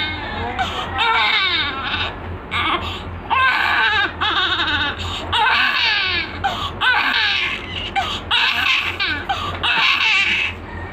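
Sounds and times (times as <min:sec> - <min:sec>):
newborn baby crying: 0:00.0 - 0:10.6.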